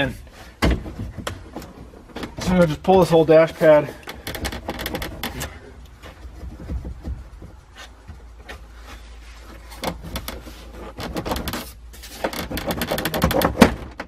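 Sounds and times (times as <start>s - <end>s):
dash pad clicking and rattling: 0.6s - 8.7s, 9.5s - 14.0s.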